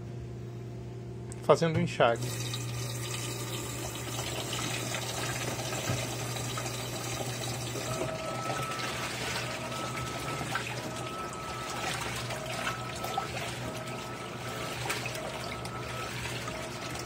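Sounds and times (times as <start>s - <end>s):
washing machine low hum: 0.0s - 17.0s
water sloshing in washing machine: 2.2s - 17.0s.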